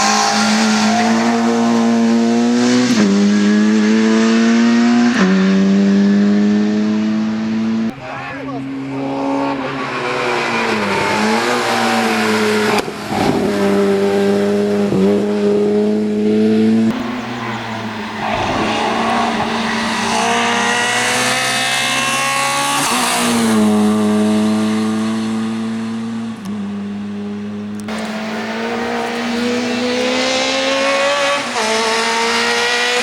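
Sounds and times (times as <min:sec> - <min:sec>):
rally car engine at high revs: 0:00.0 - 0:33.0.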